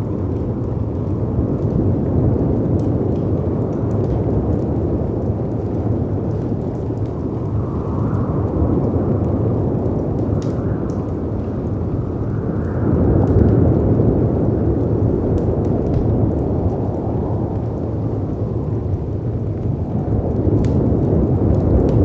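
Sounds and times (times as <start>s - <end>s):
fireplace crackling: 0.0s - 22.0s
wind rumbling: 0.0s - 22.0s.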